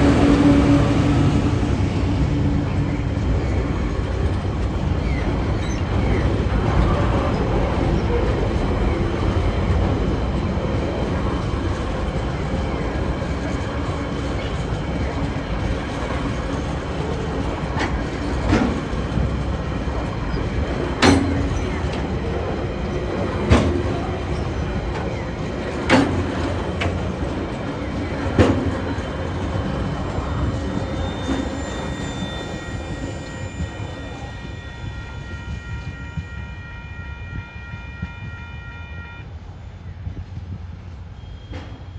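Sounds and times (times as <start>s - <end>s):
freight train wheels rumbling on rails: 0.0s - 41.9s.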